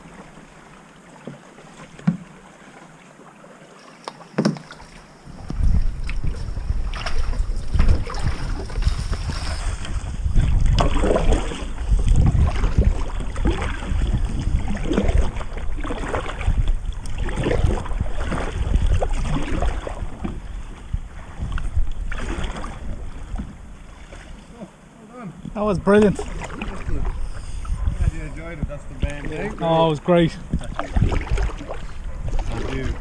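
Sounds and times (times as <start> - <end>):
paddle strokes dipping into water: 0.0 - 24.6, 25.4 - 28.0, 30.3 - 33.0
wind rumbling on microphone: 5.2 - 24.6, 25.3 - 33.0.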